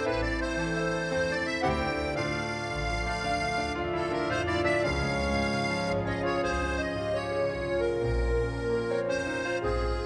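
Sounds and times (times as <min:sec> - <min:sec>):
sustained music chords: 0:00.0 - 0:10.0.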